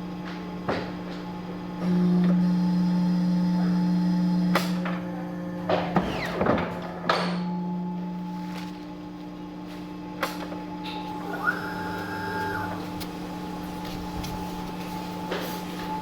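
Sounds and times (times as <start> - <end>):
guillotine motor hum: 0.0 - 16.0.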